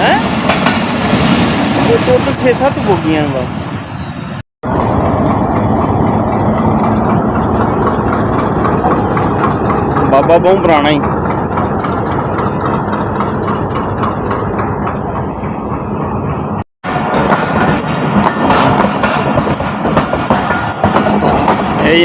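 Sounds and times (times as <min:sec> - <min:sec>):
train rattling on track: 0:00.0 - 0:22.0.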